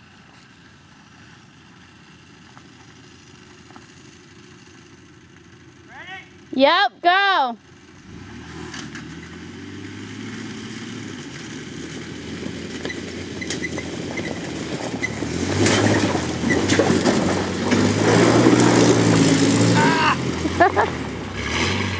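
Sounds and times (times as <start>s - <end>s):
gravel crunching under tyres: 0.0s - 5.9s, 8.0s - 21.9s
suv engine running: 0.0s - 21.9s.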